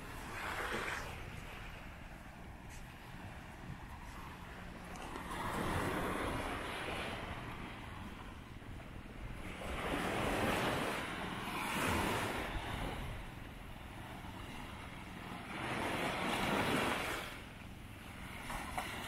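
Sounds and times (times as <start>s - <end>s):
wind on microphone: 0.0s - 17.4s.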